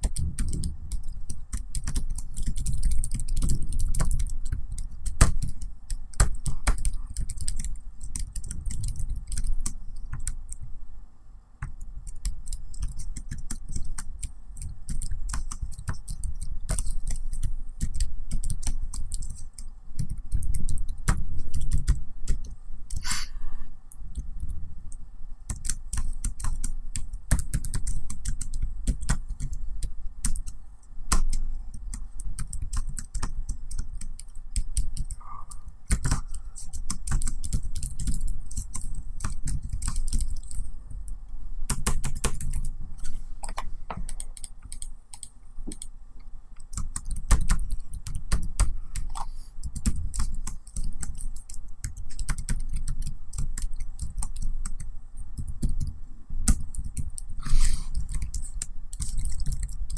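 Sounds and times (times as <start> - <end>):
laptop keyboard typing: 0.0 - 10.8, 11.6 - 23.3, 23.9 - 46.0, 46.6 - 59.9.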